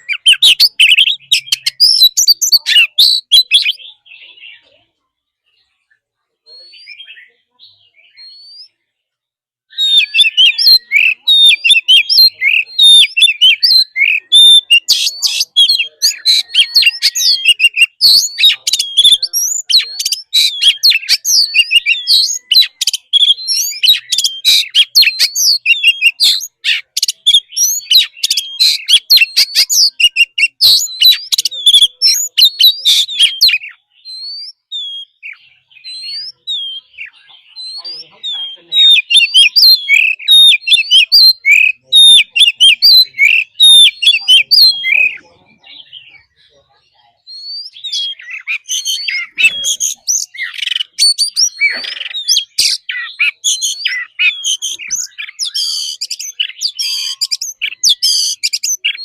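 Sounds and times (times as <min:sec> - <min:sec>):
bird singing whistles and chirps: 0:00.0 - 0:04.8, 0:05.5 - 0:08.8, 0:09.7 - 0:59.0
faint bird calls: 0:09.7 - 0:59.0.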